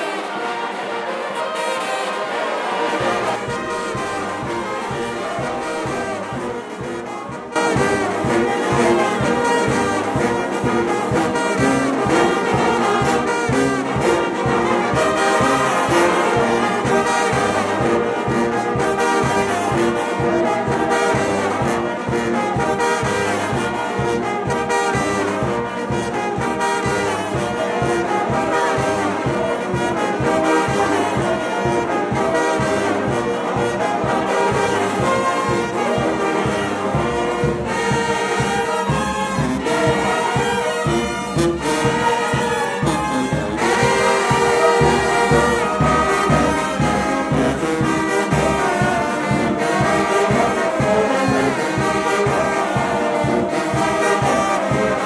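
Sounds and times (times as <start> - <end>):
brass band music: 0.0 - 55.0.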